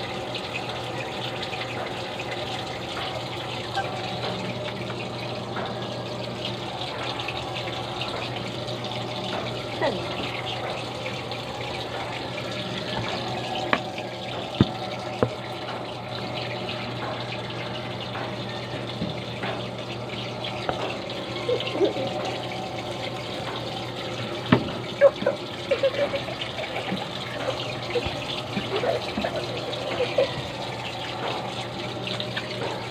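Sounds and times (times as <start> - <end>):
running water: 0.0 - 32.9.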